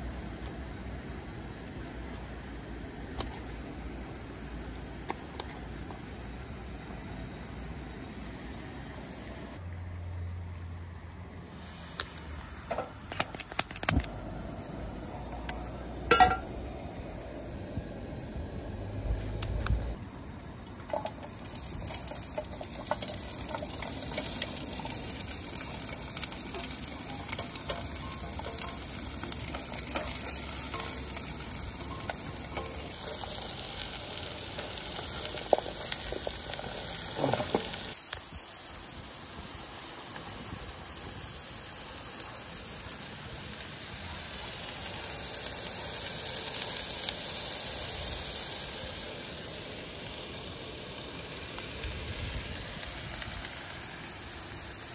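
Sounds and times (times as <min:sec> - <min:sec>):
vegetables sizzling in pot: 0:00.0 - 0:10.4, 0:11.3 - 0:54.9.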